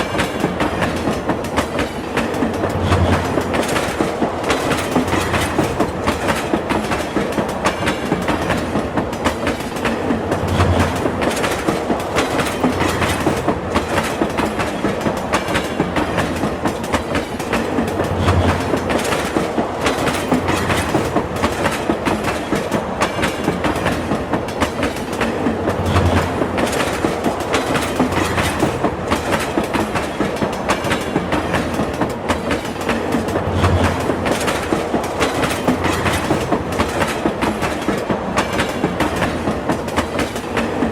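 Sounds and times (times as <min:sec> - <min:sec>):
train rumble: 0:00.0 - 0:40.9
train wheels clacking: 0:00.0 - 0:40.9.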